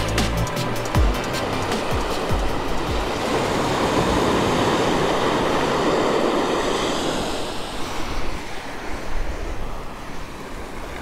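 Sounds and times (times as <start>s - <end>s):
surf washing up on beach: 0.0s - 11.0s
wind noise on microphone: 0.0s - 11.0s.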